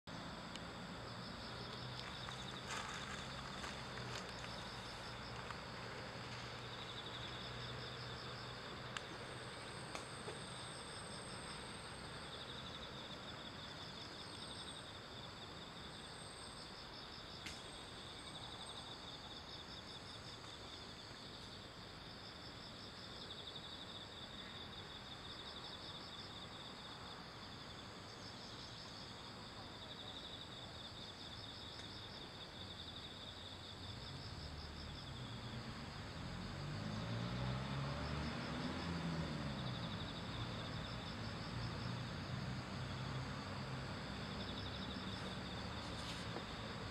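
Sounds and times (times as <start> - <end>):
insects chirping in trills: 0.1 - 46.9.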